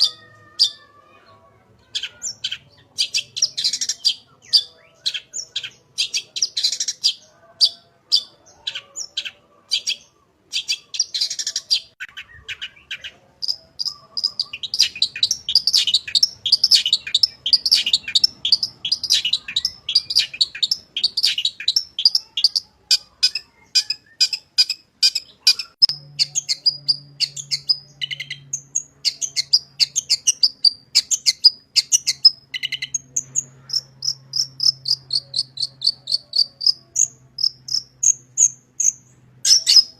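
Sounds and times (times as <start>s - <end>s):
shrike singing varied song: 0.0s - 39.9s.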